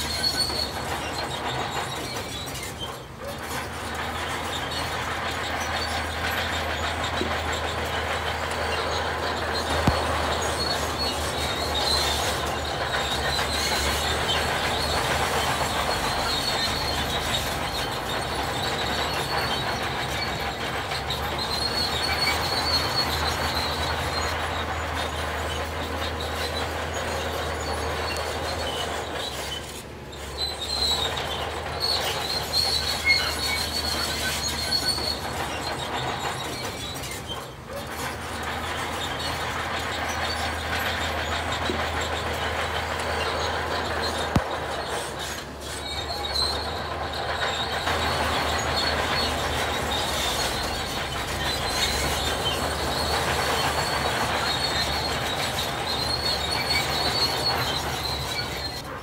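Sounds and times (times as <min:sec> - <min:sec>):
diesel engine drone: 0:00.0 - 0:59.0
high-pitched mechanical noise: 0:00.0 - 0:59.0.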